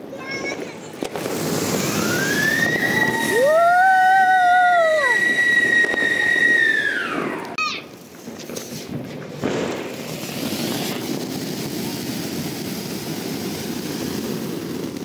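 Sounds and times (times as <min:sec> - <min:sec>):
whistling fireworks: 0:00.0 - 0:15.0.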